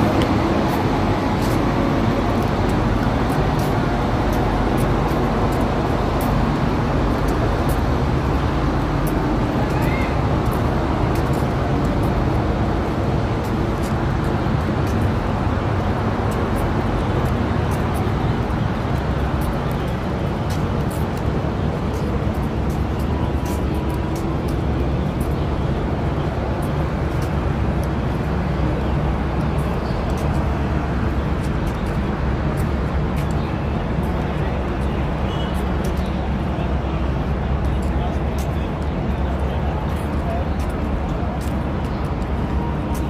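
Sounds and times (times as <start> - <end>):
traffic rumble: 0.0 - 43.0
urban hubbub: 0.0 - 43.0.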